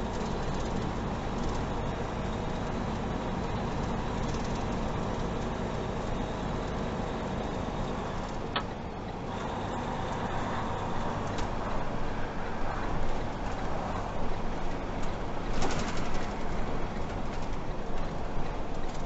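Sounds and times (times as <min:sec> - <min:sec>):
vehicle road and engine noise: 0:00.0 - 0:19.0.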